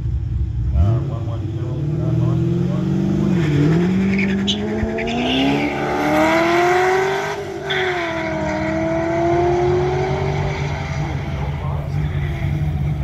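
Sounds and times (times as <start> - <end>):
race car accelerating hard: 0.7 - 13.0.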